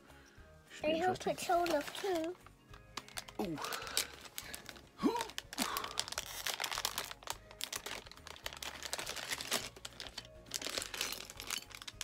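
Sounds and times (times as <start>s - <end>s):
plastic packet crinkling: 1.4s - 12.0s.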